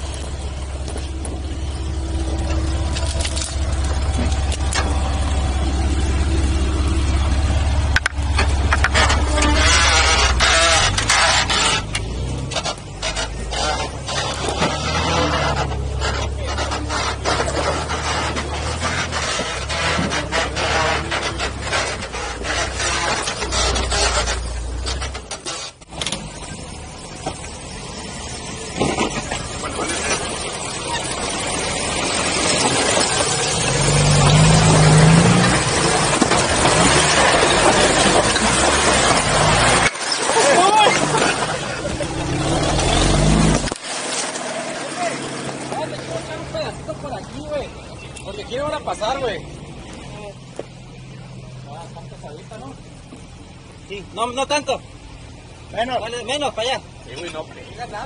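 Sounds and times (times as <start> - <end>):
knocks and clatters: 0.0 - 27.6, 28.6 - 48.3
off-road vehicle engine running low: 0.0 - 58.0
tyres crunching and scraping rocks: 0.0 - 58.0.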